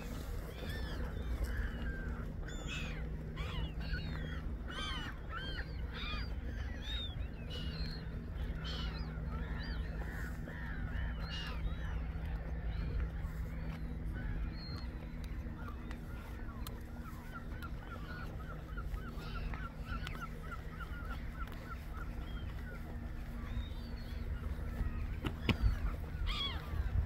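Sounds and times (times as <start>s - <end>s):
steady low hum: 0.0s - 27.0s
waterbirds calling: 0.0s - 27.0s.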